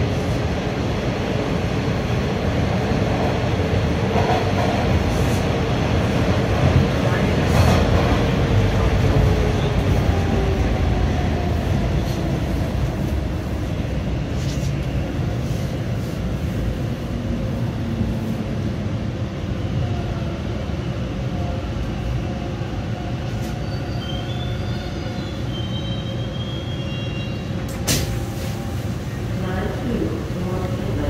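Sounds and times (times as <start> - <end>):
subway car rumble: 0.0 - 31.0.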